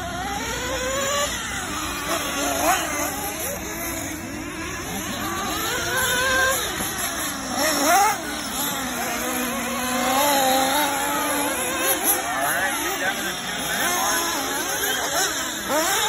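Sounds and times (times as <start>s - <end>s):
radio-controlled car motors whining: 0.0s - 16.0s.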